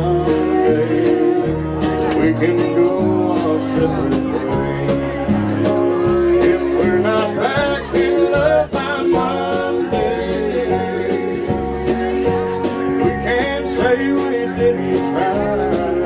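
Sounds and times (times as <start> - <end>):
fiddle: 0.0 - 16.0
guitars: 0.0 - 16.0
steady bass beat: 0.0 - 16.0.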